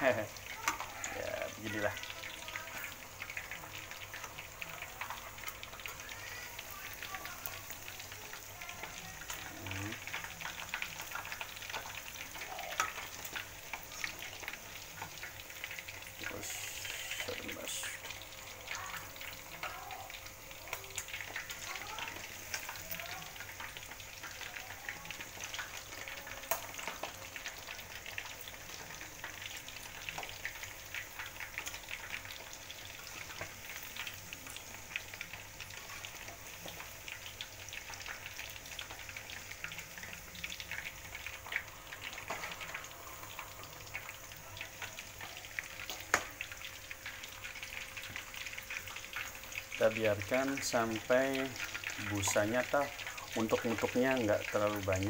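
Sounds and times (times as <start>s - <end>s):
chicken deep-frying in oil: 0.0s - 55.0s.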